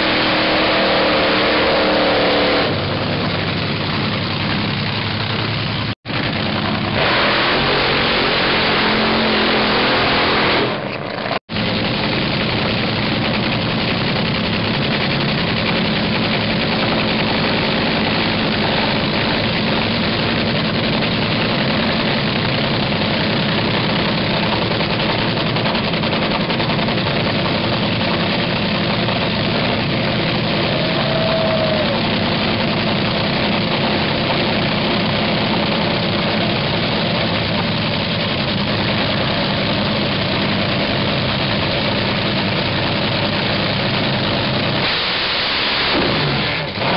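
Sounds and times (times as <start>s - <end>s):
dragster engine idling: 2.7s - 7.0s, 10.8s - 44.8s.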